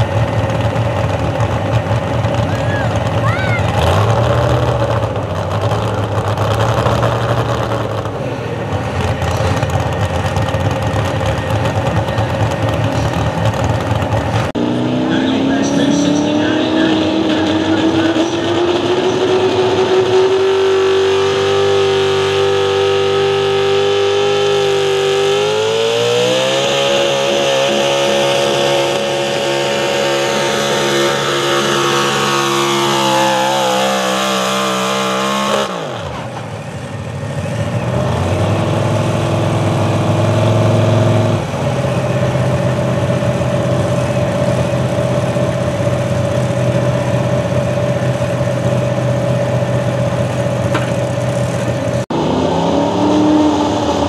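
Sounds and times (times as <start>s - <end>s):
truck engine revving under load: 0.0s - 54.0s.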